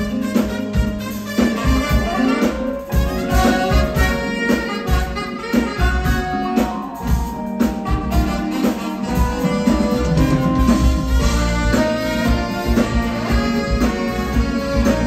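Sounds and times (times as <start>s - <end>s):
live band playing upbeat music: 0.0s - 15.0s
steady drum beat: 0.0s - 15.0s.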